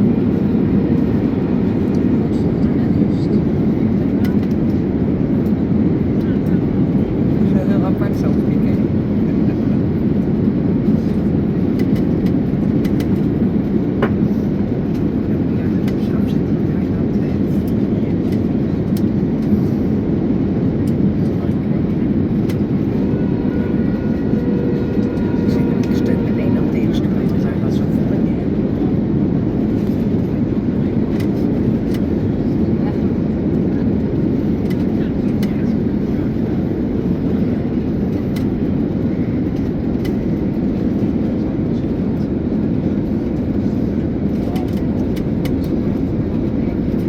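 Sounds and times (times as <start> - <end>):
airliner cabin engine noise: 0.0 - 47.0.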